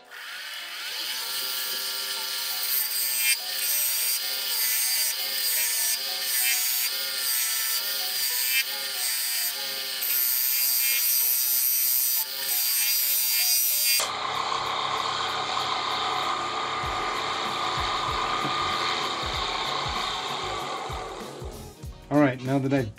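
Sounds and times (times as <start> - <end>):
lathe tool rasping and squealing: 0.0 - 21.5.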